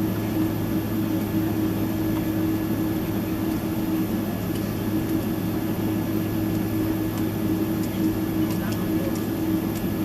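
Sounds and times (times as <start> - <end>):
airliner cabin hum: 0.0 - 10.0.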